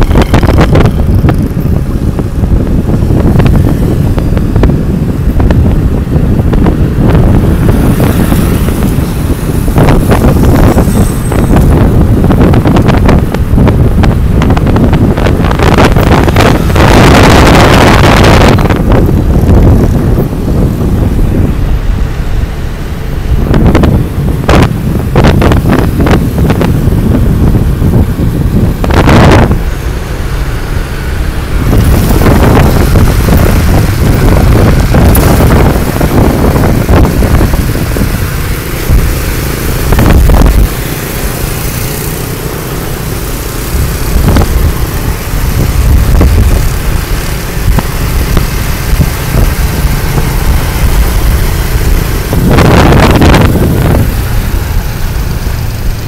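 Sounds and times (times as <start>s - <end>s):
road noise: 0.0s - 56.0s
scooter engine: 0.0s - 56.0s
wind buffeting microphone: 0.0s - 56.0s.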